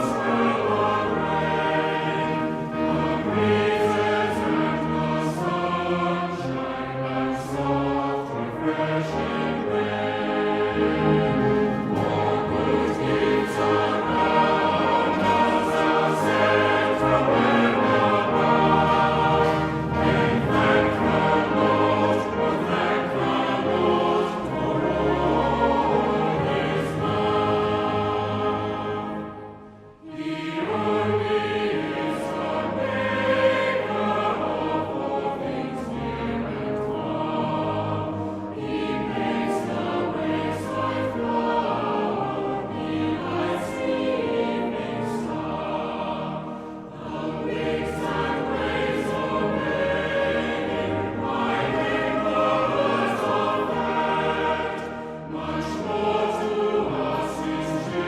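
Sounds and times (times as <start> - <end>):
choir singing: 0.0 - 58.0
instrumental accompaniment: 0.0 - 58.0.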